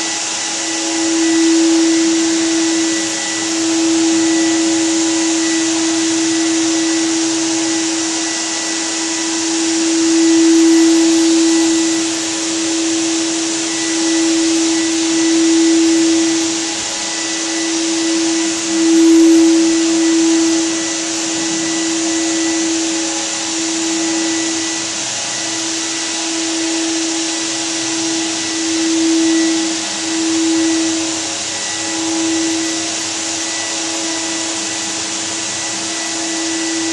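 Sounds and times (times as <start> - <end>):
electric motor whining: 0.0 - 36.9.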